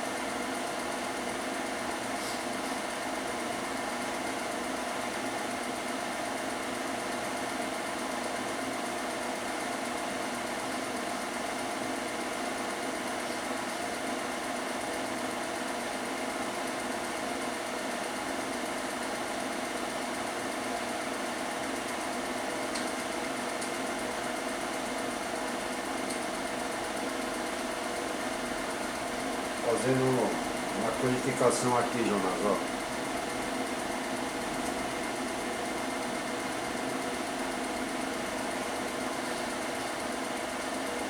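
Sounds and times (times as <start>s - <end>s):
film projector humming: 0.0s - 41.0s.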